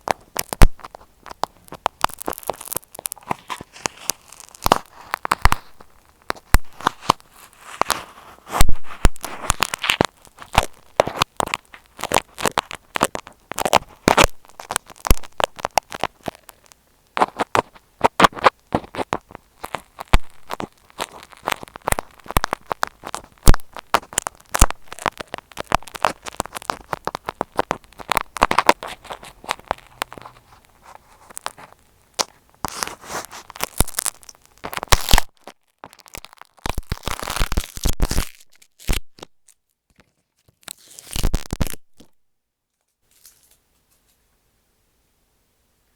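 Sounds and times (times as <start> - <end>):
tape on microphone crackling: 0.0 - 42.2.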